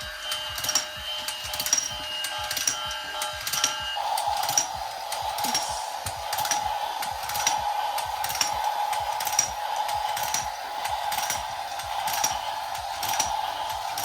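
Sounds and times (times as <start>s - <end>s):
small electric motor whirring: 0.0s - 14.0s.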